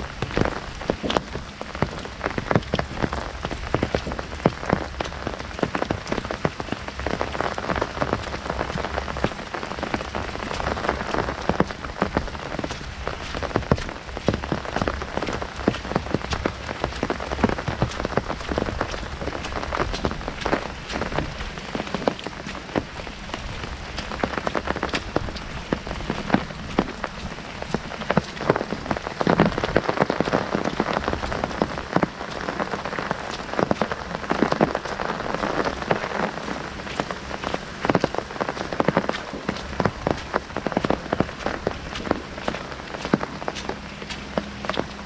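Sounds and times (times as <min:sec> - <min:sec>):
heavy rain on an umbrella: 0:00.0 - 0:45.0.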